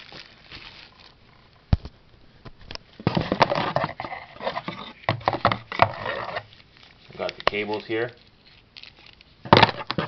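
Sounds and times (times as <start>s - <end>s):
packaging rustling: 0.0s - 2.0s, 2.6s - 10.0s.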